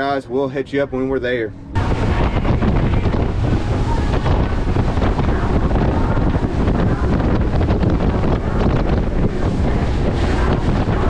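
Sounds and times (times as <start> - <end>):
wind buffeting microphone: 0.0 - 11.0
water rushing off boat hull: 1.7 - 11.0.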